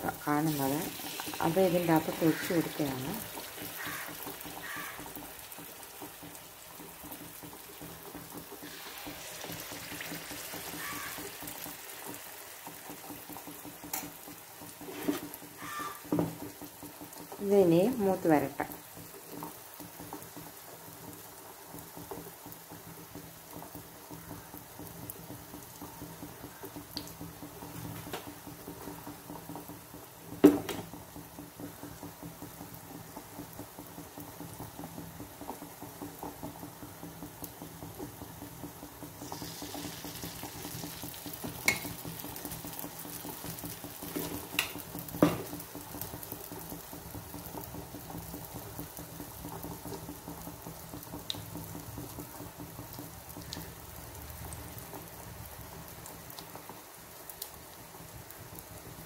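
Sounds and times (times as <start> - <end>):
batter sizzling in hot oil: 0.0 - 59.0.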